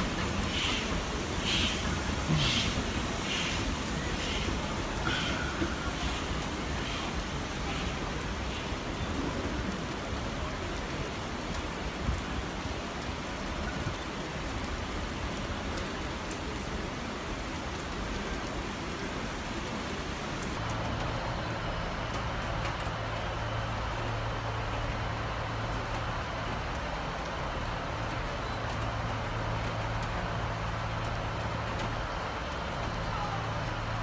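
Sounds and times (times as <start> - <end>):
rain hissing: 0.0 - 34.0.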